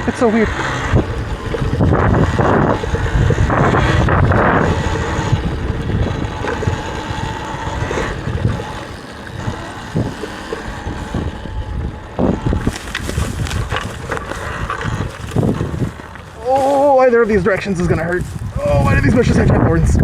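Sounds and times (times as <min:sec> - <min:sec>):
branches scraping and rustling: 0:00.0 - 0:19.4
electric motor whine: 0:00.0 - 0:19.6
wind buffeting microphone: 0:00.0 - 0:20.0.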